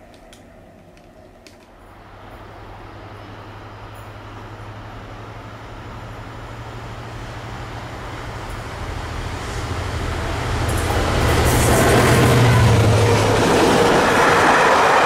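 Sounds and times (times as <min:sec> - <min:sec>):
diesel locomotive engine droning: 0:00.0 - 0:15.0
train wheels on rails: 0:00.0 - 0:15.0.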